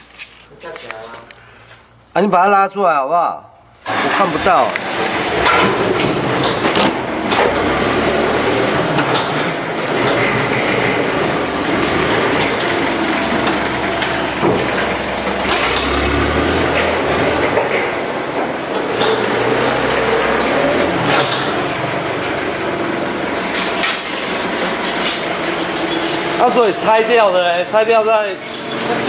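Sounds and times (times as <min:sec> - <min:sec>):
mechanical clatter and rumble: 0:03.8 - 0:29.0.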